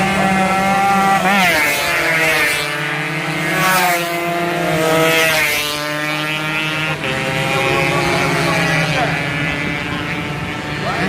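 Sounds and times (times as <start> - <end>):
racing motorcycles revving: 0.0 - 11.0.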